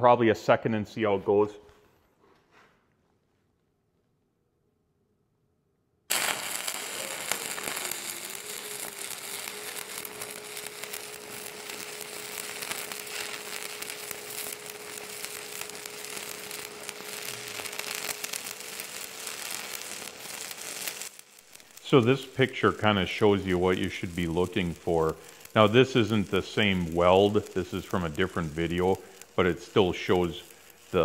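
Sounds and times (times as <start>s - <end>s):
welding arc crackling: 6.1s - 31.0s.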